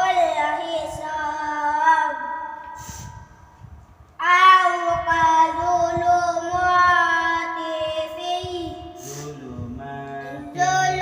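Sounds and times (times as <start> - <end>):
high voice reciting melodically: 0.0 - 3.4, 4.2 - 11.0.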